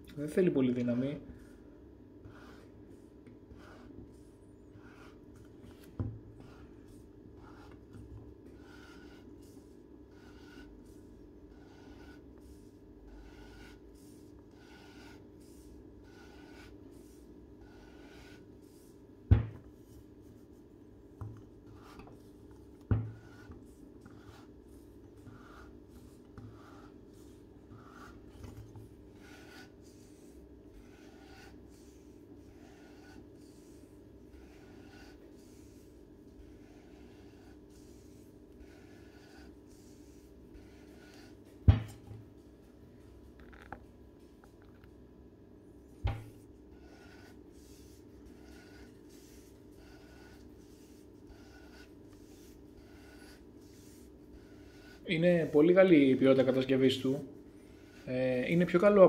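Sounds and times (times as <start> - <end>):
steady low hum: 0.0 - 59.0
soft rubbing strokes of coffee maker: 0.2 - 45.0, 45.6 - 59.0.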